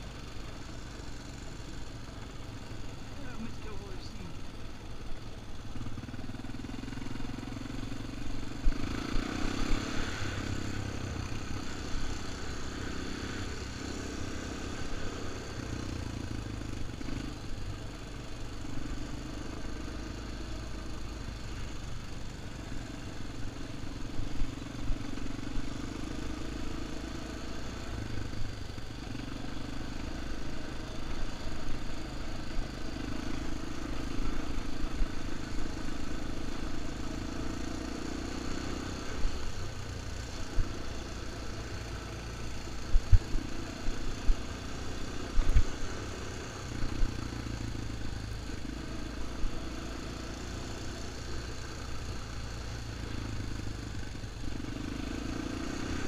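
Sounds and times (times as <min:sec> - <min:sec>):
quad engine running: 0:00.0 - 0:56.0.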